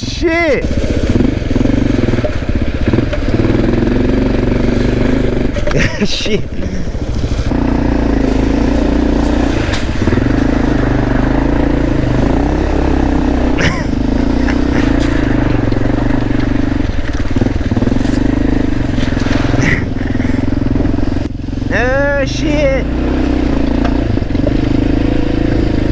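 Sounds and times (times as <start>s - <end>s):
dirt bike engine running: 0.0s - 25.9s.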